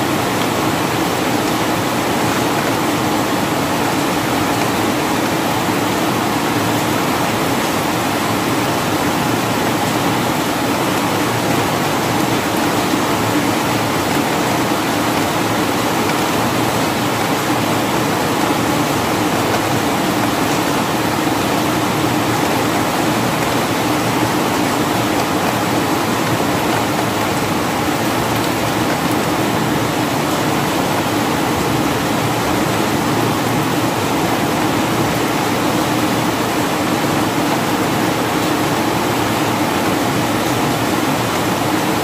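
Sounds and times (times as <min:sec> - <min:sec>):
rain falling on plants: 0:00.0 - 0:42.0.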